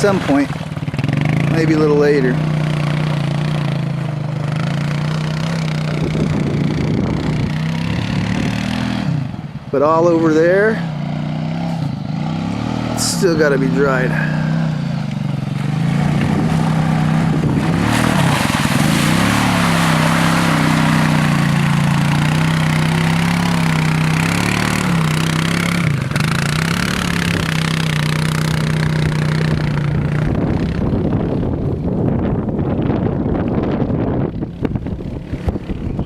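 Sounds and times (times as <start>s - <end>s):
quad engine revving: 0.0s - 31.6s, 34.0s - 36.0s.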